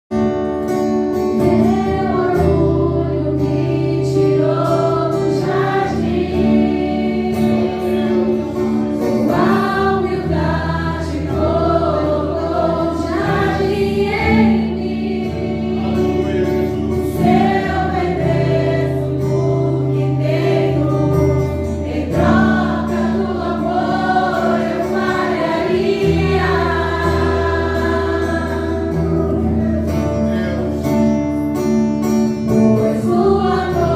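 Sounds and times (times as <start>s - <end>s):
group singing gospel song: 1.3s - 31.4s, 32.4s - 33.9s.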